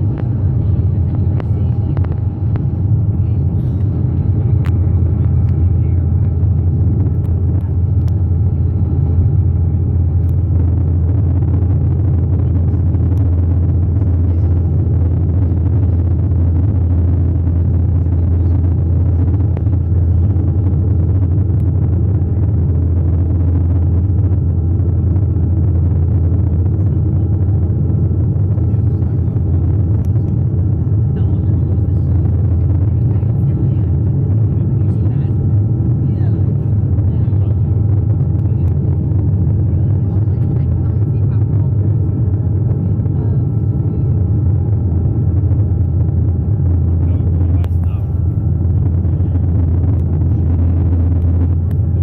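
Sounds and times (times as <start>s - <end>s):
turboprop engine drone in cabin: 0.0s - 52.0s.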